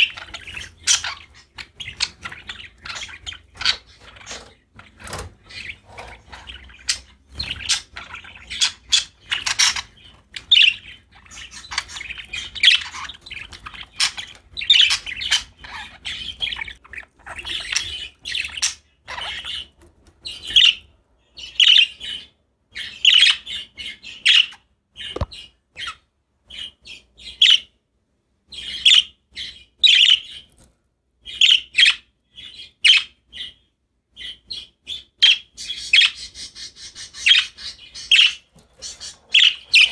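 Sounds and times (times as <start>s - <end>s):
budgies chirping and chattering: 0.0s - 27.8s, 28.4s - 39.9s.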